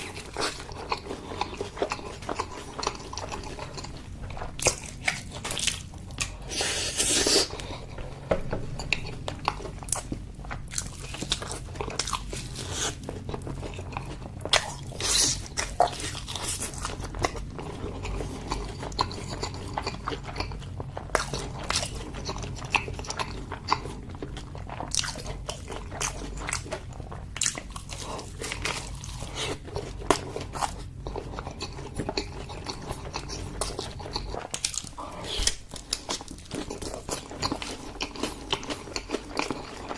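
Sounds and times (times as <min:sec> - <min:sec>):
chewing with wet smacks: 0:00.0 - 0:39.9
food crunching: 0:00.0 - 0:39.9.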